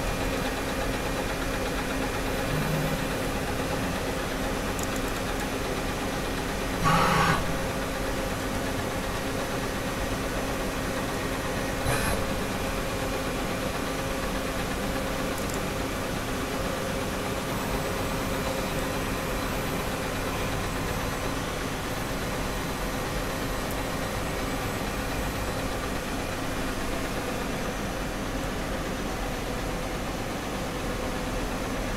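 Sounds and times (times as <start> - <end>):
machine humming with faint tones: 0.0 - 28.1.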